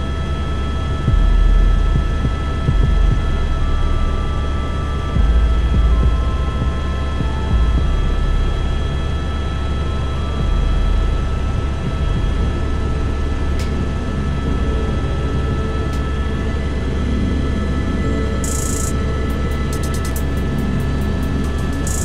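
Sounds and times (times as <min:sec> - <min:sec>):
helicopter engine and rotor rumble: 0:00.0 - 0:22.0
steady high whine: 0:00.0 - 0:22.0.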